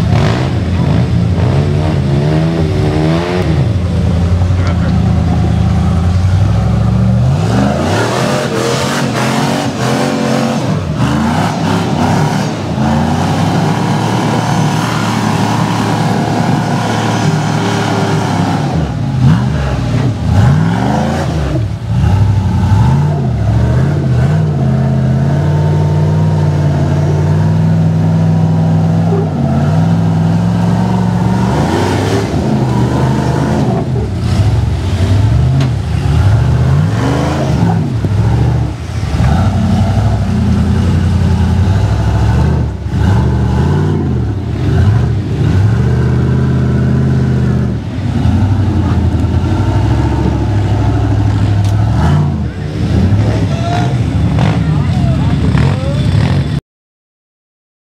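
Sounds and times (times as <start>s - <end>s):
buggy engine revving: 0.0s - 56.6s.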